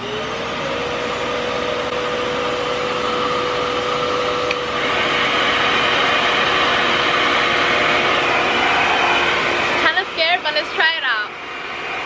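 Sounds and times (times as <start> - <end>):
hair dryer motor humming: 0.0 - 12.0.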